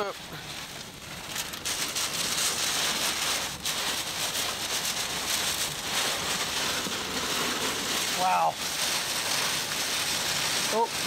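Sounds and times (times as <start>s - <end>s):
rain pelting car windshield: 0.0s - 11.0s.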